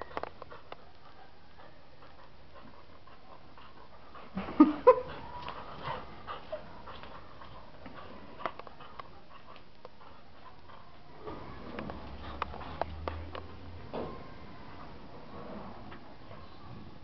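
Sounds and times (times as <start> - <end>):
dog panting: 0.0 - 13.8.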